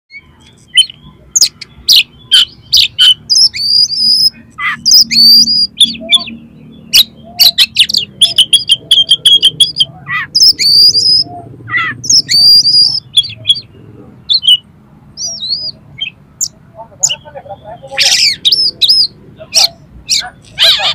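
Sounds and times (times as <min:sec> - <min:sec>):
songbird singing rasping notes: 0:00.1 - 0:20.9.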